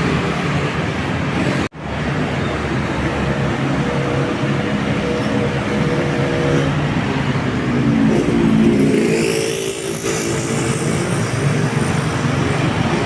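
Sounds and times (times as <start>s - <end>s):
bus engine accelerating: 0.0s - 13.0s.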